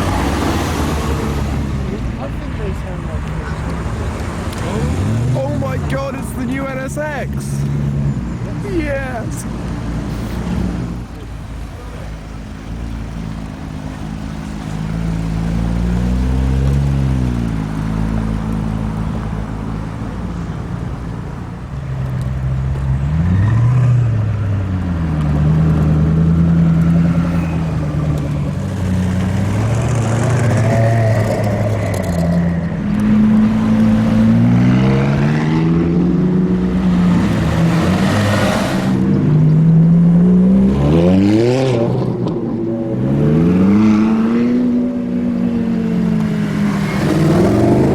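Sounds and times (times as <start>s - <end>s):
sports car engines revving past: 0.0s - 47.9s.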